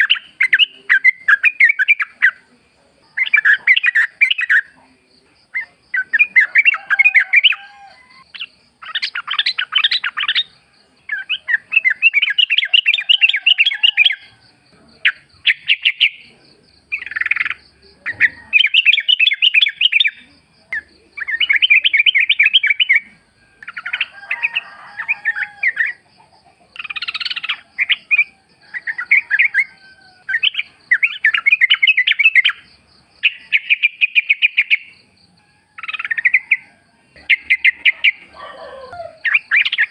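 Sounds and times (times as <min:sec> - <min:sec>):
bird singing chattering phrases: 0:00.0 - 0:35.2, 0:35.8 - 0:39.9.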